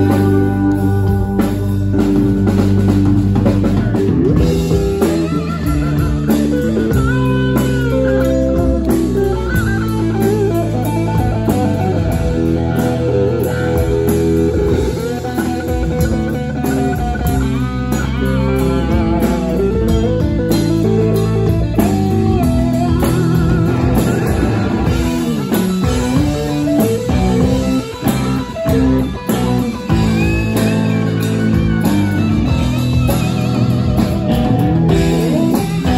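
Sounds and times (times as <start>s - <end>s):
bass guitar: 0.0s - 35.9s
drum kit: 0.0s - 35.9s
electric guitar lines: 0.0s - 35.9s.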